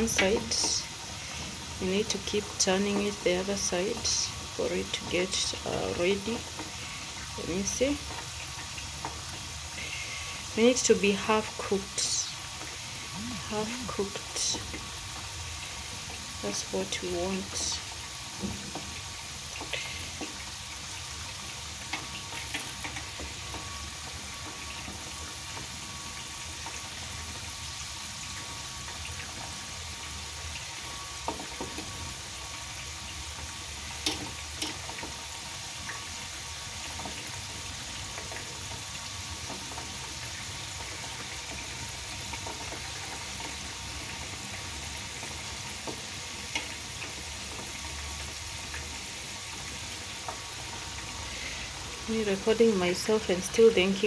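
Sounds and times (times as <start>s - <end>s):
potatoes sizzling in hot oil: 0.0s - 54.0s.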